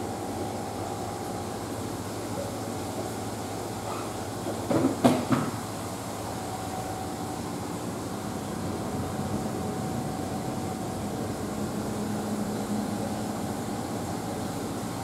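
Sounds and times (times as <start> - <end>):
room hiss and hum: 0.0 - 15.0.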